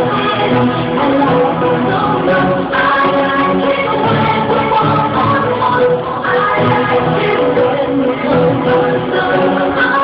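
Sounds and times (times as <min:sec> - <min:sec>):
loud dance music with singing: 0:00.0 - 0:10.0.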